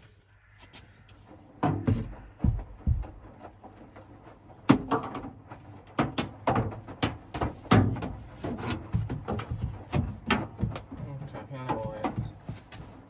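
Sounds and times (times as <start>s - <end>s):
irregular knocks and thuds: 1.6s - 13.0s.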